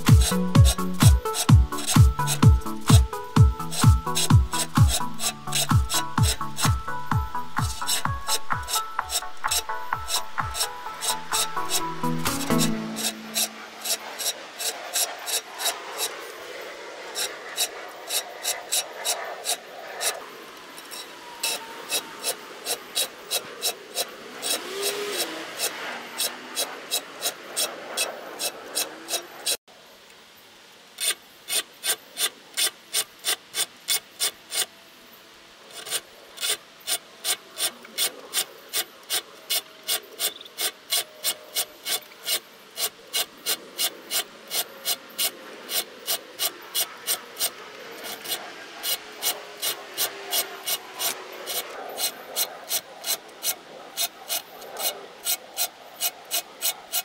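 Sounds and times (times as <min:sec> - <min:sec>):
file rasping on saw teeth: 0:00.0 - 0:16.4, 0:17.1 - 0:20.2, 0:20.8 - 0:29.6, 0:31.0 - 0:34.7, 0:35.7 - 0:57.0.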